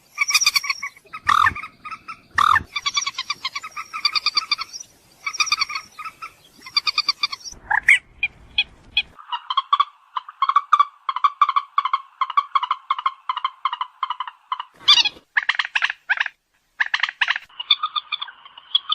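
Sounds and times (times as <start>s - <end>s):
moorhen calls: 0.0s - 18.9s.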